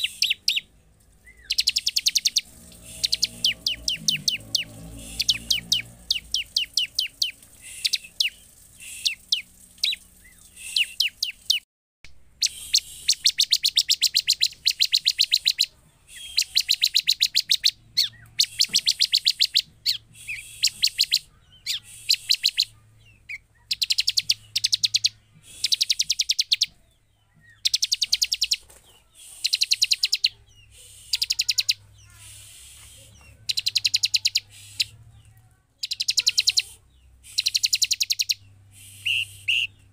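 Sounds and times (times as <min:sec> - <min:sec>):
bird chirps: 0:00.0 - 0:11.6, 0:12.4 - 0:39.9
bird singing rapid trills: 0:00.0 - 0:11.6, 0:12.4 - 0:35.0, 0:35.7 - 0:39.9.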